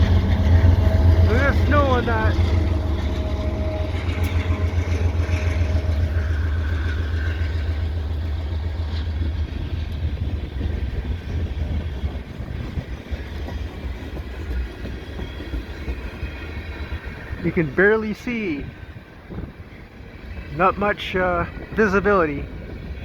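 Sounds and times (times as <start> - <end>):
diesel locomotive engine rumble: 0.0 - 23.0
freight cars rolling on rails: 0.0 - 23.0.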